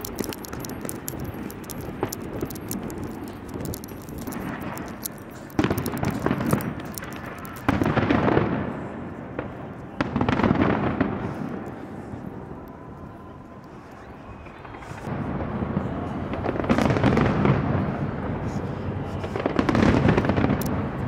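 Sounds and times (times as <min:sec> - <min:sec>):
loud firework bursts: 0:00.0 - 0:12.6, 0:14.6 - 0:21.0
fireworks crackling: 0:00.0 - 0:21.0.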